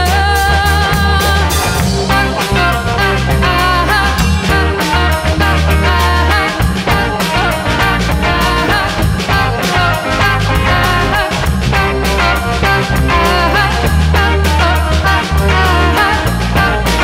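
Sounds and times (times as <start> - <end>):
drum beat: 0.0 - 17.0
live band playing: 0.0 - 17.0
strong bass: 0.0 - 17.0.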